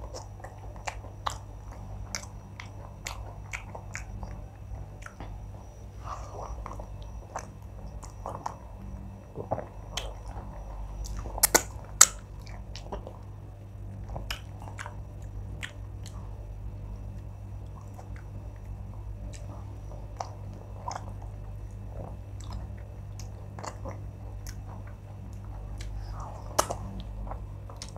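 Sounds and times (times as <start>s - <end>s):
person chewing: 0.0s - 16.4s, 17.0s - 27.9s
low steady hum: 0.0s - 27.9s.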